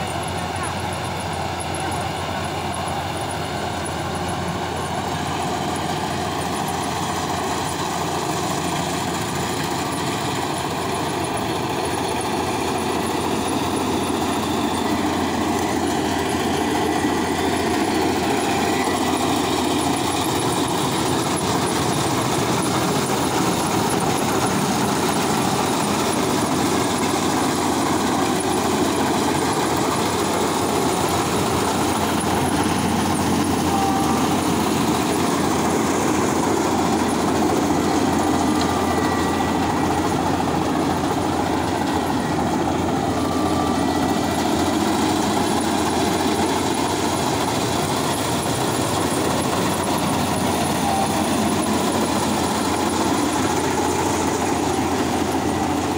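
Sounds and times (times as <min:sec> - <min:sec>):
combine harvester droning: 0:00.0 - 0:55.9.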